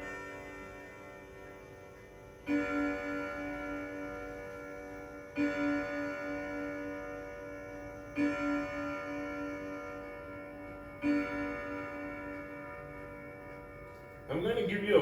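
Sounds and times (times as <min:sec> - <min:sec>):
clock striking gong: 0:00.0 - 0:15.0.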